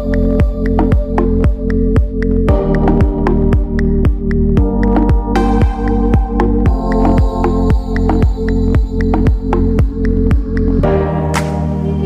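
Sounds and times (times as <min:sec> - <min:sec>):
held chords: 0:00.0 - 0:12.0.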